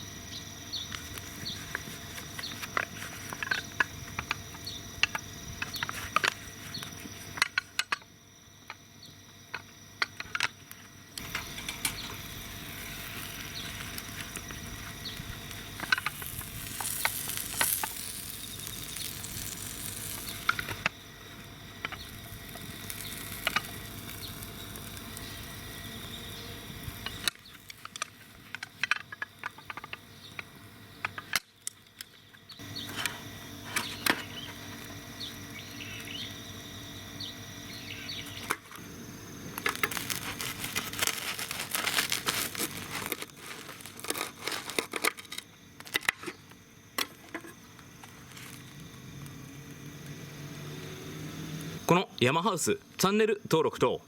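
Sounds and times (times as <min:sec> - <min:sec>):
firewood crackling and popping: 0:00.5 - 0:08.1, 0:08.7 - 0:36.4, 0:37.8 - 0:50.2.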